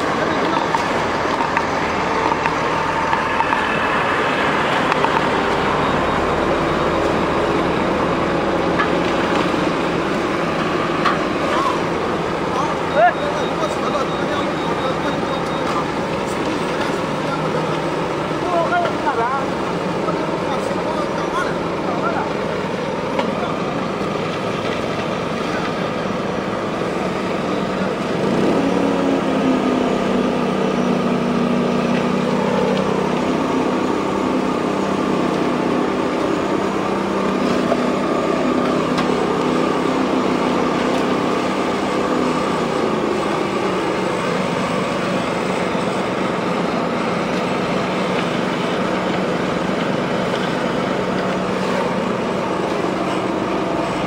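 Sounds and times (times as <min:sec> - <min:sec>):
concrete screed engine running: 0:00.0 - 0:54.0
pitched engine hum: 0:00.0 - 0:54.0.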